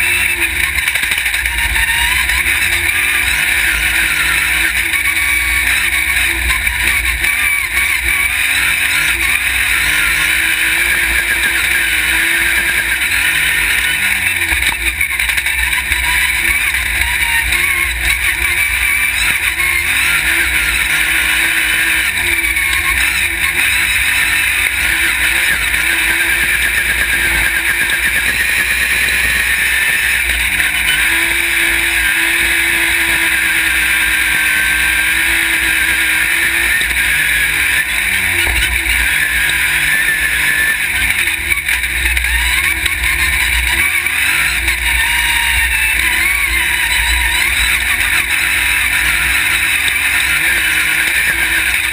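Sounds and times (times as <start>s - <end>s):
buggy engine revving high: 0.0s - 51.9s.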